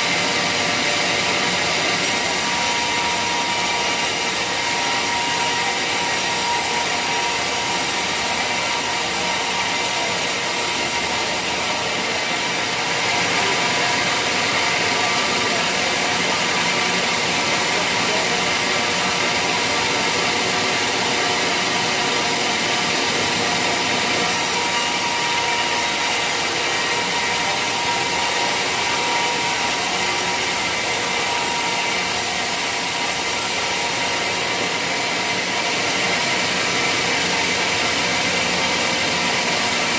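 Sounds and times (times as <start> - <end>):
saw cutting wood: 0.0 - 39.9.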